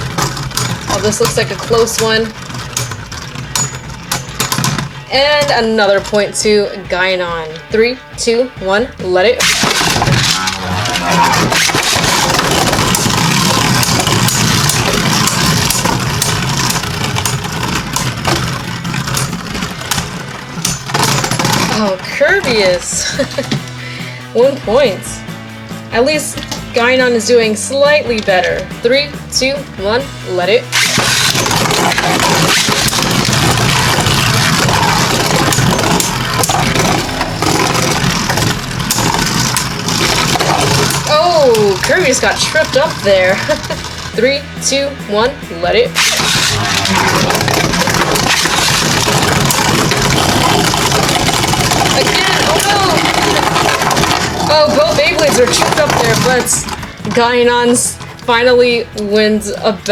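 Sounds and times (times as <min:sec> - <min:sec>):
sharp clicks of tops striking: 0:00.0 - 0:08.4, 0:09.3 - 0:59.9
spinning tops whirring and grinding: 0:00.0 - 0:59.9.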